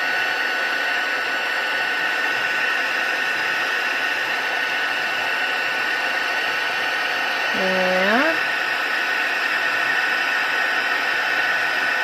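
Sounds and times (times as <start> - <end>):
heat gun blowing with whine: 0.0 - 12.0.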